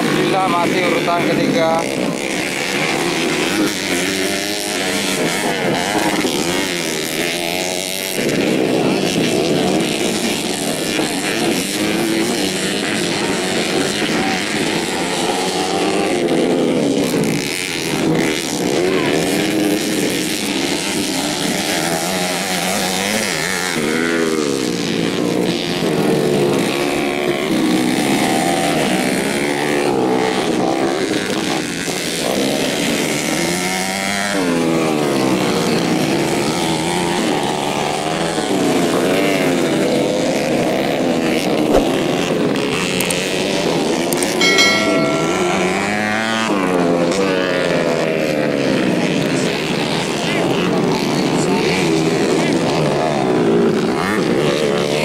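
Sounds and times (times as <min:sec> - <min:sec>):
motocross bike engines revving: 0:00.0 - 0:44.3.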